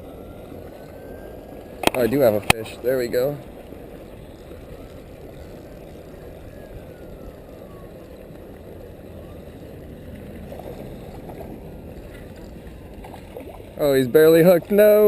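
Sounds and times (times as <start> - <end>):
low rumbling noise: 0.0 - 14.8.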